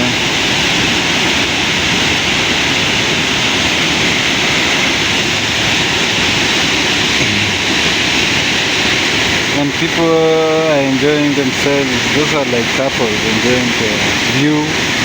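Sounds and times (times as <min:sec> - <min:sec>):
waterfall pouring onto rocks: 0:00.0 - 0:15.0.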